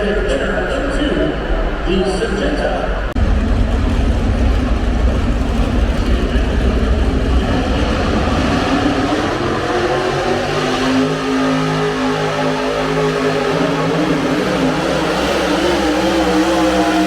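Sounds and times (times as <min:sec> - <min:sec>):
tractor engine running hard: 0:03.2 - 0:17.0.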